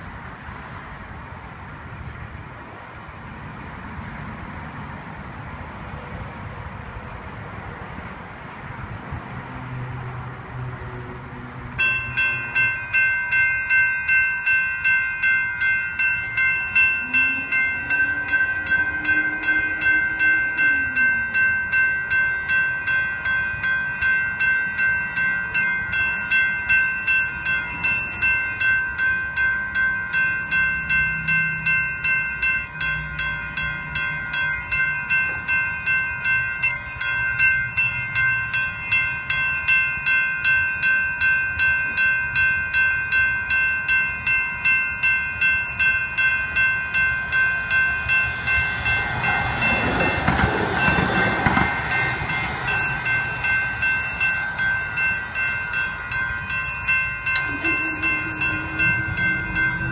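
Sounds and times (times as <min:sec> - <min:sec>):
light rail train passing: 0:00.0 - 0:59.9
electronic crossing bells ringing: 0:11.3 - 0:59.9.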